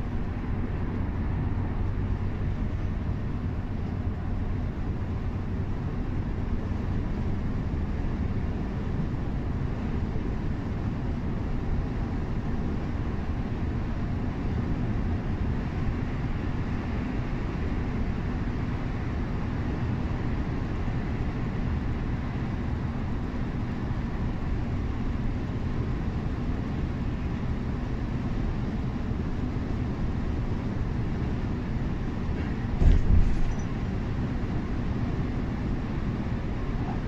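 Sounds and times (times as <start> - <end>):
coach engine and road rumble: 0.0 - 37.0.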